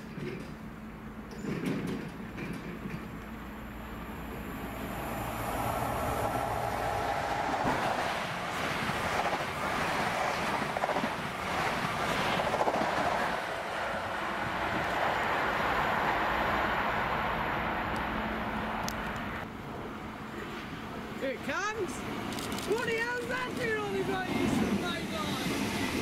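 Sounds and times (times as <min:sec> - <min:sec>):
approaching train drone: 0:00.0 - 0:26.0
electric train rushing past: 0:00.0 - 0:26.0.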